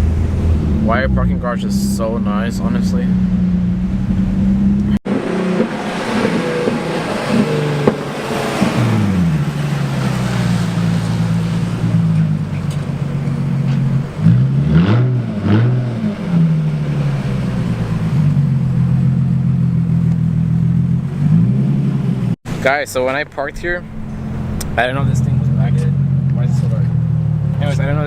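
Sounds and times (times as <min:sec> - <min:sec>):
car engine at low revs: 0:00.0 - 0:28.0.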